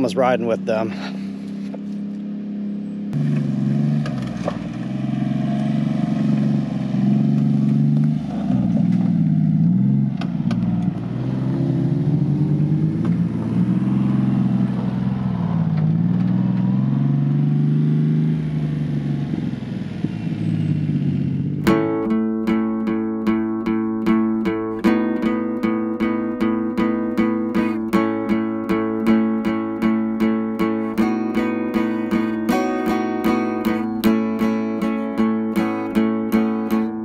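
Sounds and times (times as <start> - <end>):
small truck engine revving: 0.0 - 37.0.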